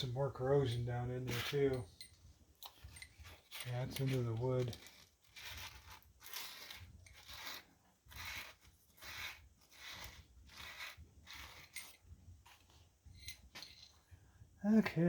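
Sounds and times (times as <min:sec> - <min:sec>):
hand tool scraping metal: 0:00.0 - 0:13.9.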